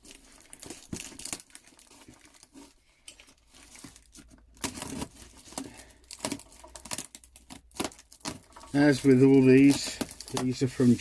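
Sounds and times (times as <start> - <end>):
packing material crinkling and tearing: 0.0 - 11.0.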